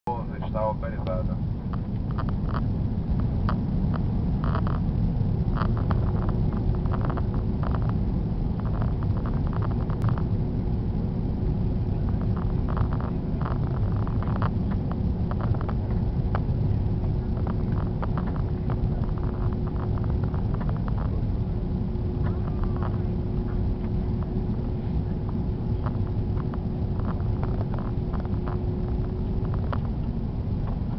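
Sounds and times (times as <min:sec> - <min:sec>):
aircraft engines and airflow rumble: 0:00.0 - 0:30.9
thin steady hum: 0:00.1 - 0:30.9.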